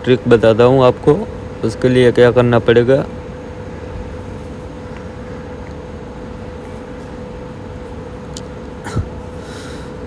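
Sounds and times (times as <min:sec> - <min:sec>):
constant low hum: 0:00.0 - 0:10.0.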